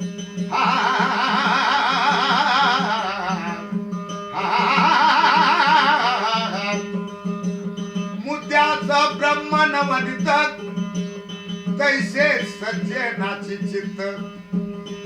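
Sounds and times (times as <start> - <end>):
wordless melodic singing with vibrato: 0.0 - 15.0.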